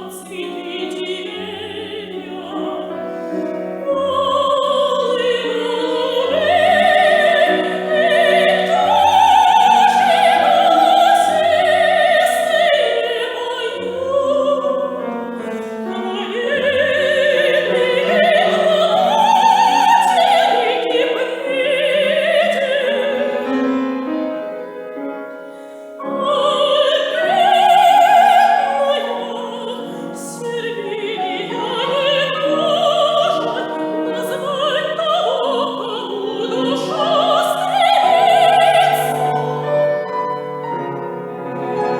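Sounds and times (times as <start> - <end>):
soprano singing with vibrato: 0.0 - 24.4, 26.0 - 40.6
piano accompaniment: 0.0 - 41.9.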